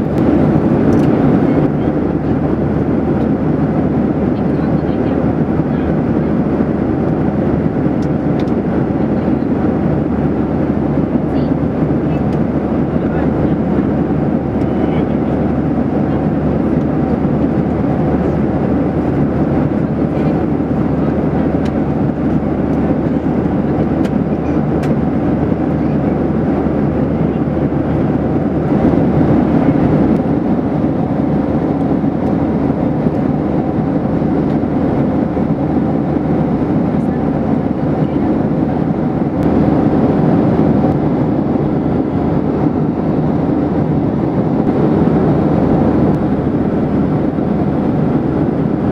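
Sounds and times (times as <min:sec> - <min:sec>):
airflow rushing over fuselage: 0:00.0 - 0:48.9
jet engines humming: 0:00.0 - 0:48.9.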